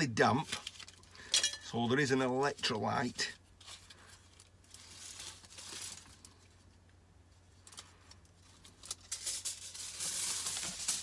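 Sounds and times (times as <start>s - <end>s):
foil and paper crinkling: 0.2s - 1.2s, 2.0s - 6.6s, 7.6s - 11.0s.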